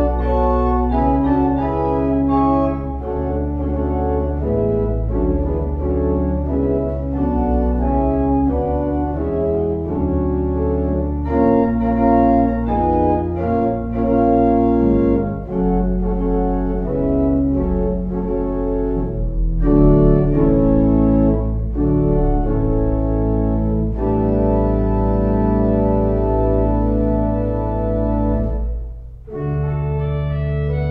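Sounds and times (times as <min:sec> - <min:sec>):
organ chords over bass notes: 0:00.0 - 0:30.9.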